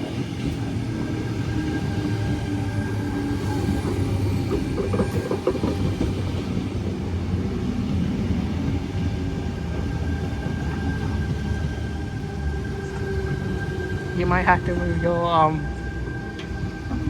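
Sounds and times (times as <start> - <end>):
train hum: 0.0 - 17.0
train wheels rumbling on rail: 0.0 - 17.0.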